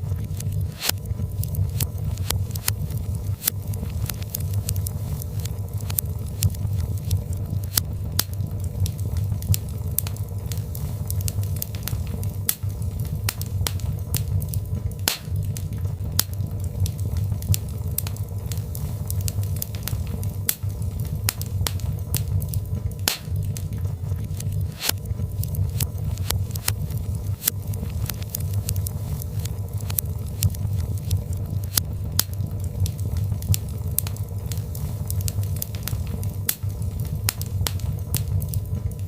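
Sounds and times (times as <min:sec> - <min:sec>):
logs crackling and popping: 0:00.0 - 0:39.0
low rumble of fire: 0:00.0 - 0:39.0.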